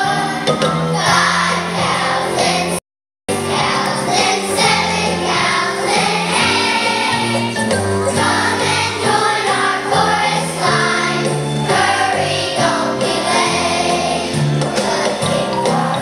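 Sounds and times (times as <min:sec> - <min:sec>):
children's choir singing: 0:00.0 - 0:16.0
instrumental accompaniment: 0:00.0 - 0:16.0.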